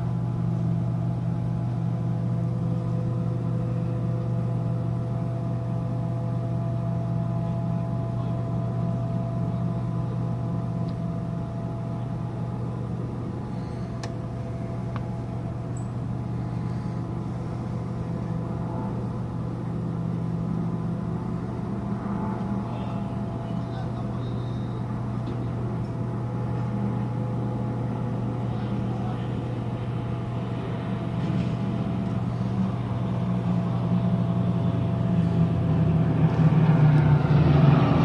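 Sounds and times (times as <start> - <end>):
ship machinery humming: 0.0 - 38.0.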